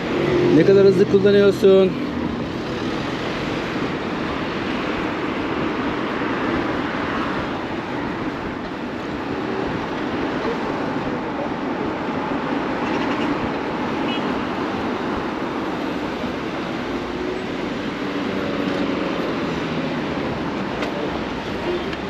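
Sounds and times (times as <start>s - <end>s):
road noise: 0.0s - 22.0s
surrounding vehicles: 0.0s - 22.0s.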